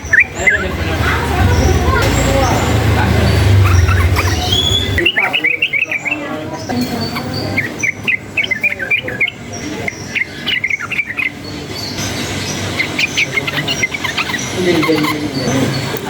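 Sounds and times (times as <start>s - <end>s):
bird singing chirpy notes: 0.0s - 16.0s.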